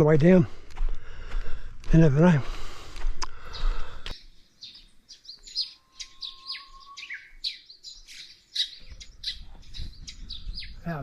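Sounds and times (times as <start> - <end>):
small birds chirping: 2.0 - 11.0.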